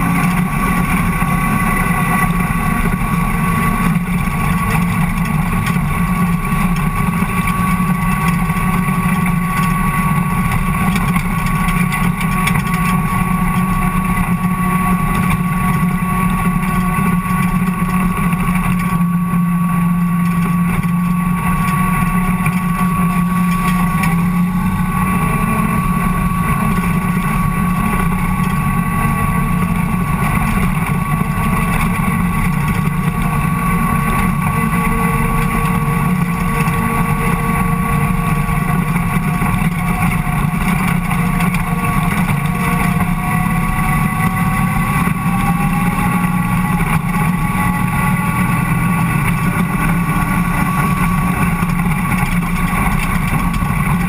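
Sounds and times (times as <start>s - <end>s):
race car engine running: 0.0s - 54.0s
steady thin whine: 0.0s - 54.0s.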